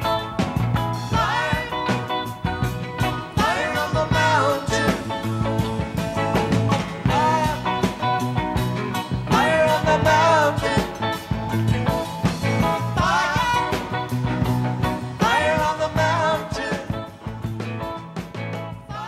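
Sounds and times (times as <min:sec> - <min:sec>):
rock song with vocals: 0:00.0 - 0:19.0.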